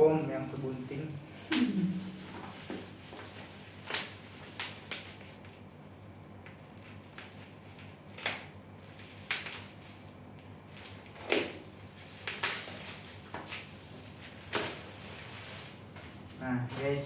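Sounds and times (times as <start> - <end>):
packaging rustling: 2.0 - 5.6, 6.6 - 16.9.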